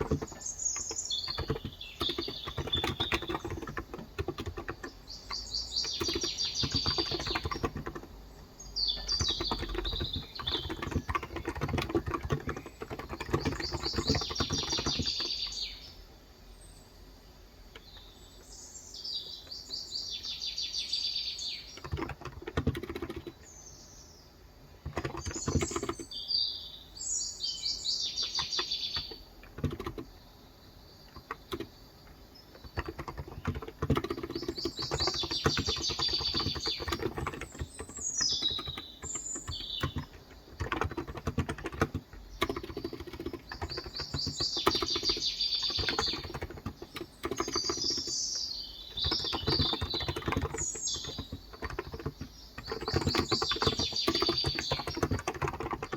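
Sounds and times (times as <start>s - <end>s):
keyboard typing: 0.0s - 15.6s, 21.6s - 23.5s, 24.8s - 26.2s, 28.0s - 30.2s, 31.0s - 55.9s
birds chirping: 0.0s - 55.9s.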